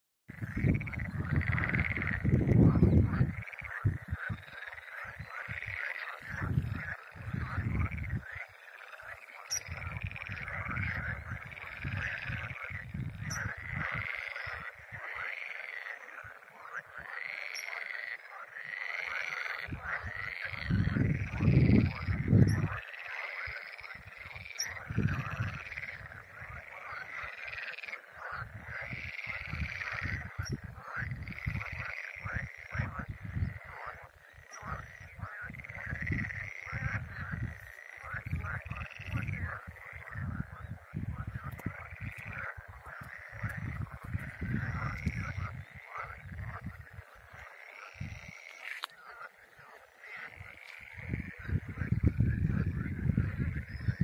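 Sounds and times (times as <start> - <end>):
frogs croaking: 0.3 - 54.0
wind rumbling on microphone: 0.3 - 54.0.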